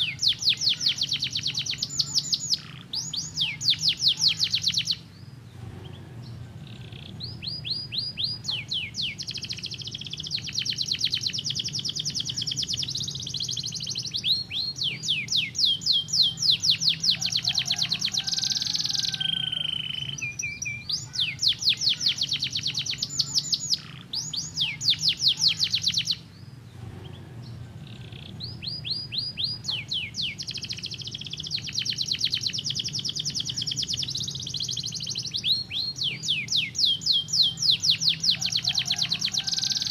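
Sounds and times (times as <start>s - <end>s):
canary singing trills: 0.0s - 39.9s
faint low hum: 0.0s - 39.9s.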